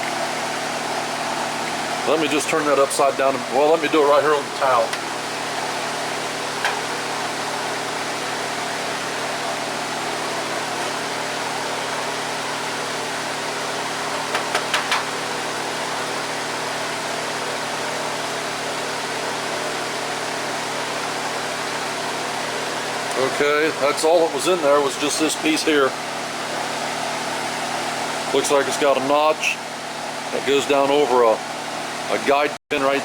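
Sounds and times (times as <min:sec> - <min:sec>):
electric fan whirring: 0:00.0 - 0:33.0.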